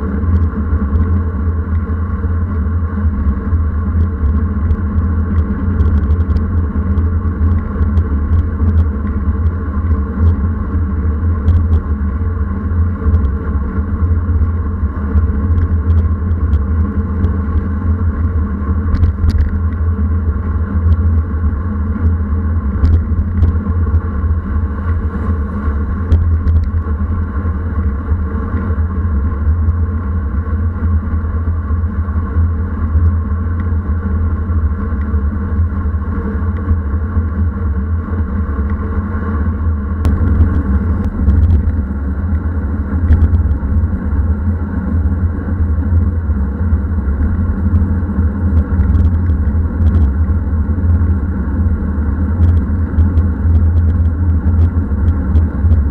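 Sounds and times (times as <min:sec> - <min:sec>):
wind buffeting microphone: 0:00.0 - 0:30.0, 0:38.5 - 0:55.9
road noise: 0:00.0 - 0:55.9.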